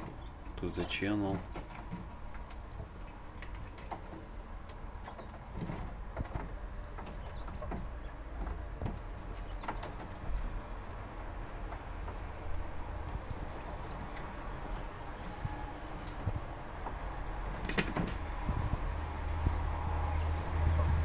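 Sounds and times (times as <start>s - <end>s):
birds shuffling in cage: 0.0s - 21.0s
quails pecking clicks: 0.0s - 21.0s.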